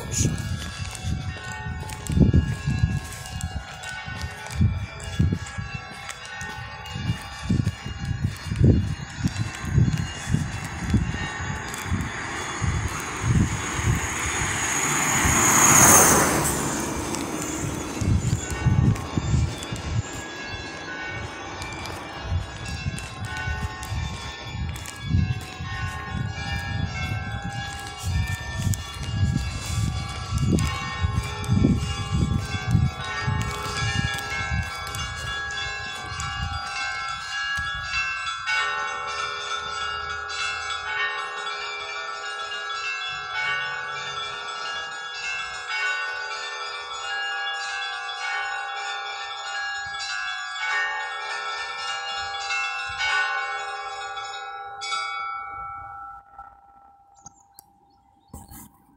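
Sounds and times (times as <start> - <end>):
church bells ringing: 0.0 - 57.4.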